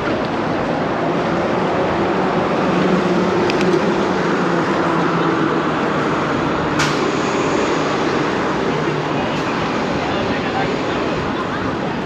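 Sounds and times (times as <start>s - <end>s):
street traffic rush: 0.0s - 12.0s.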